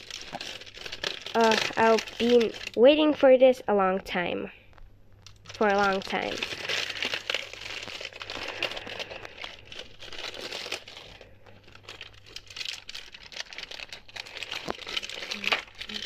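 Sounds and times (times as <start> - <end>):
plastic wrapping crinkling: 0.0 - 3.3, 4.7 - 16.0.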